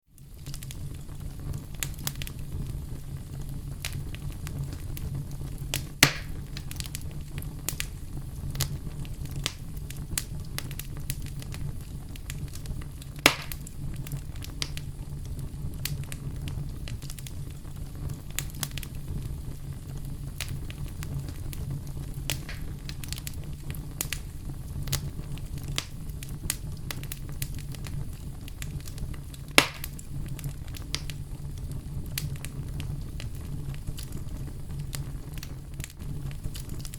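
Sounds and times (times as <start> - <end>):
bonfire crackling and snapping: 0.1 - 36.9
low fire rumble: 0.1 - 36.9
loud fire pops: 0.2 - 36.9.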